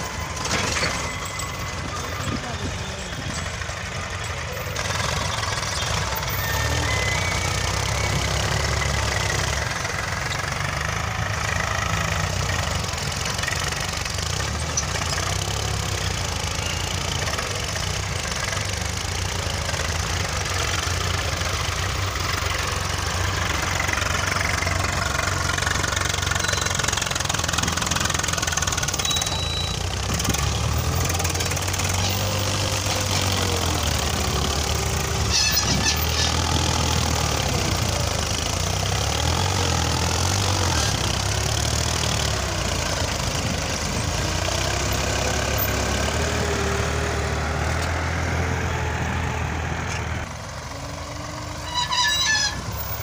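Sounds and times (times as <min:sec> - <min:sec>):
diesel tractor engine under load: 0:00.0 - 0:53.0.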